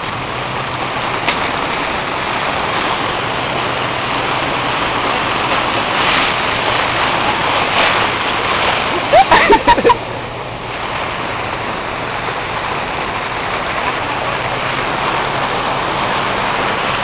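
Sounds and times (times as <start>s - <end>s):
water rushing against car: 0.0s - 17.0s.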